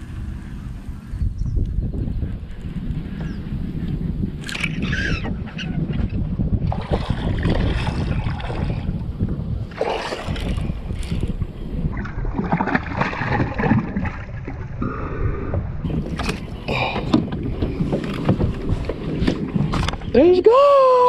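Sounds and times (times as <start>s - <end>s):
water moving around kayak: 0.0s - 21.0s
wind rumbling on microphone: 0.0s - 21.0s.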